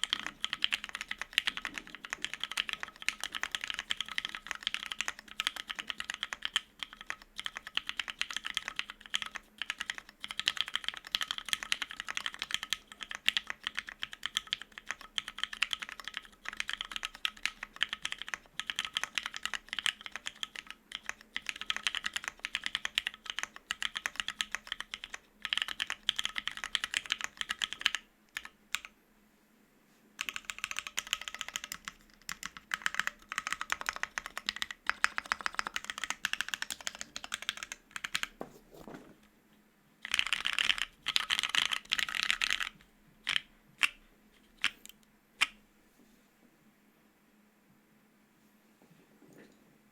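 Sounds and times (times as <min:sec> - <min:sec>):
fast typing on mechanical keyboard: 0:00.0 - 0:28.9, 0:30.2 - 0:39.1, 0:40.0 - 0:43.9.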